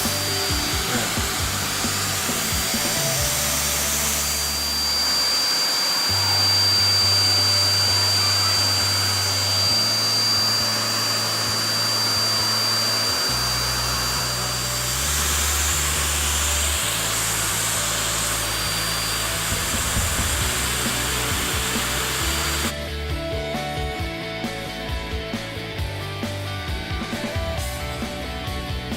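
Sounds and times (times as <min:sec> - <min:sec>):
background music with bass: 0:00.0 - 0:28.9
vacuum cleaner running: 0:00.0 - 0:28.9.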